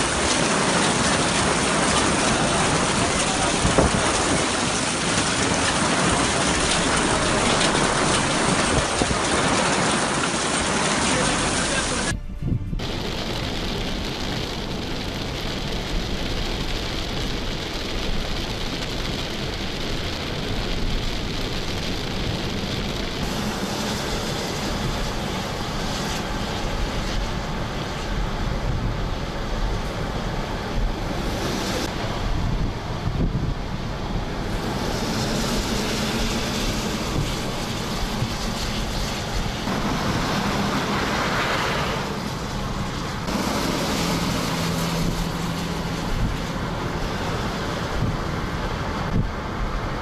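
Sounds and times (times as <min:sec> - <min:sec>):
tyres hissing on wet road: 0:00.0 - 0:12.2, 0:12.8 - 0:50.0
low road rumble: 0:00.0 - 0:50.0
wind noise: 0:00.0 - 0:50.0.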